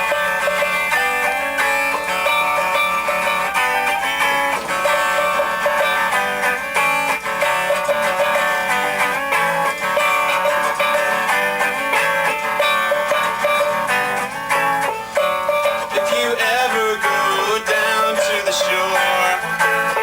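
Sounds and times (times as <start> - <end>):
song with guitar: 0.0 - 20.0.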